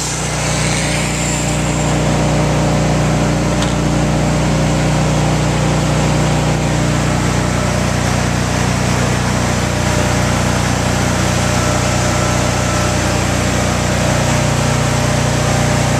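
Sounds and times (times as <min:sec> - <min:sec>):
generator engine running: 0:00.0 - 0:15.9.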